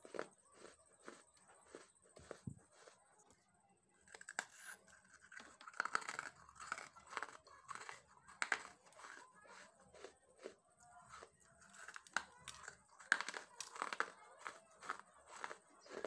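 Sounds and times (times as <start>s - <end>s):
crunching dry clay: 0.0s - 3.0s, 4.1s - 16.0s.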